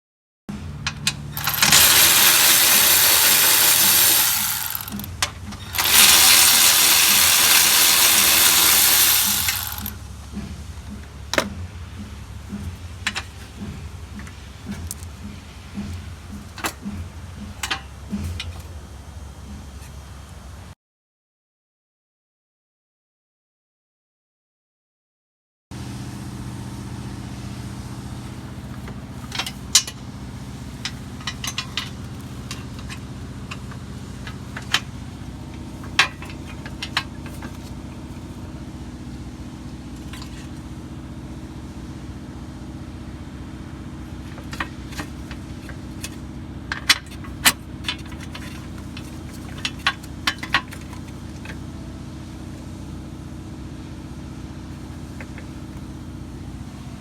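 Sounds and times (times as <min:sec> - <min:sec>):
low mechanical hum: 0:00.5 - 0:20.8, 0:25.7 - 0:57.0.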